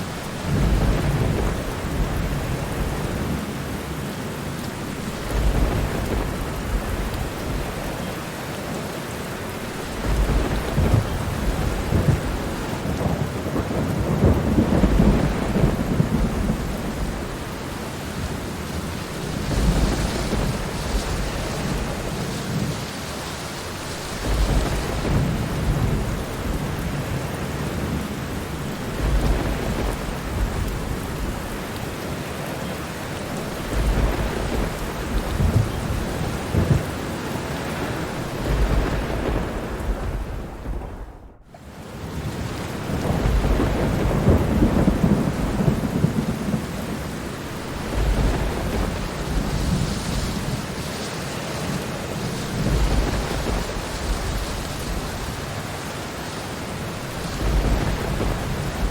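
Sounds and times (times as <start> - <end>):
thunder rolling: 0.0 - 3.8, 4.8 - 8.4, 9.4 - 22.8, 23.7 - 32.0, 33.2 - 58.9
steady rain falling: 0.0 - 58.9.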